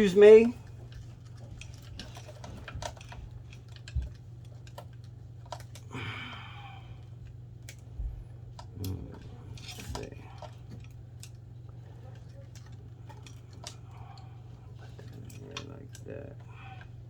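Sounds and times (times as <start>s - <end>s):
steady low hum: 0.0s - 17.0s
wires and plastic parts clicking: 0.0s - 17.0s.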